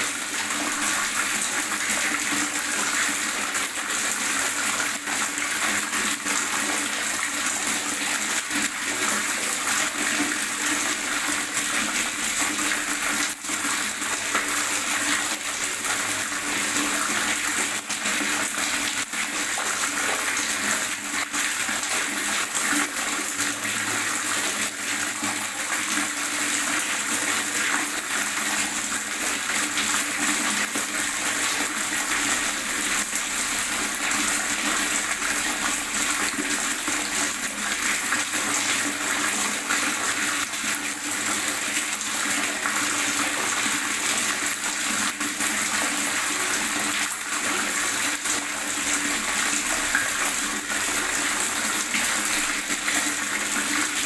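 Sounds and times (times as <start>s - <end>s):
water gurgling: 0.0s - 54.0s.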